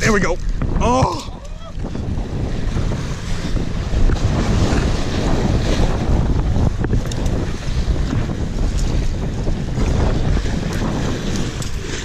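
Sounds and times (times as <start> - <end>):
waves washing against boulders: 0.0 - 12.0
wind buffeting microphone: 0.0 - 12.0.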